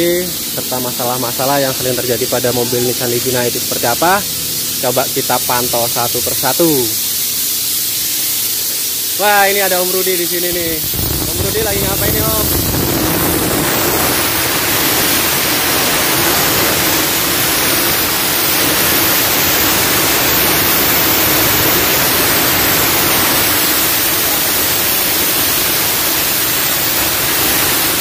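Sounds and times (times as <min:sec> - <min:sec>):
compressed air hissing: 0:00.0 - 0:28.0.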